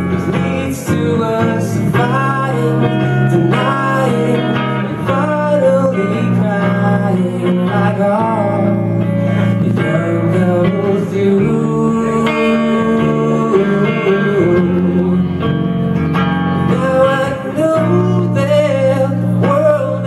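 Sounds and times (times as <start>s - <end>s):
acoustic lap guitar picking: 0.0s - 20.0s
man singing sliding notes: 0.0s - 20.0s.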